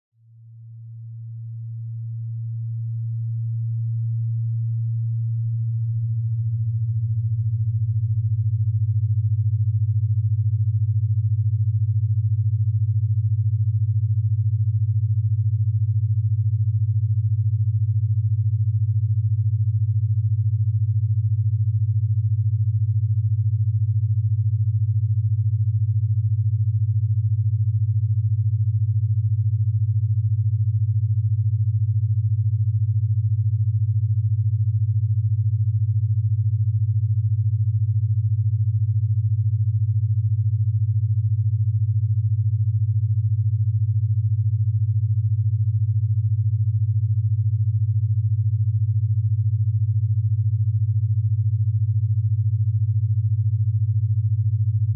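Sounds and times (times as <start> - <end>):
low-pitched hum: 0.3 - 54.9.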